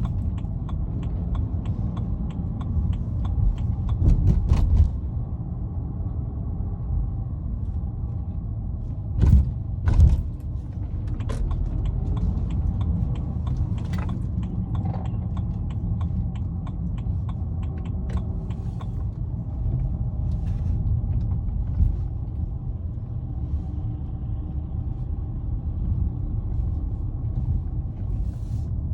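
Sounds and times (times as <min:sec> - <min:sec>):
low engine and road rumble: 0:00.0 - 0:28.9.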